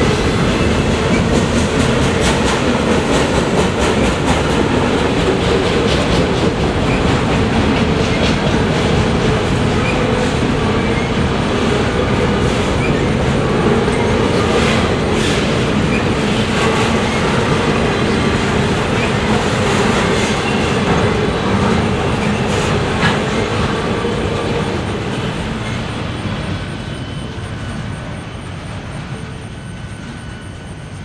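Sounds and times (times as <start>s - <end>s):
train wheels clattering on rails: 0.0s - 31.0s.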